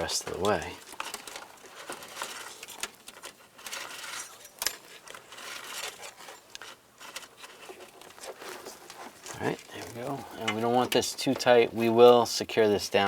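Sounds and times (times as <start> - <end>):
wiring rubbing through rubber grommet: 0.0 - 12.3.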